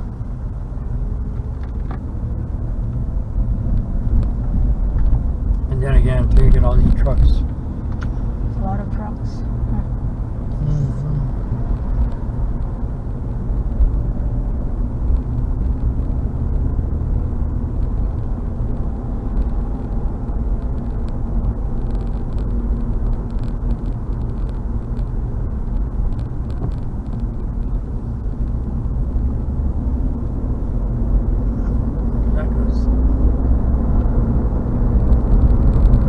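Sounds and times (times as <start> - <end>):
car road and tyre noise: 0.0 - 36.0.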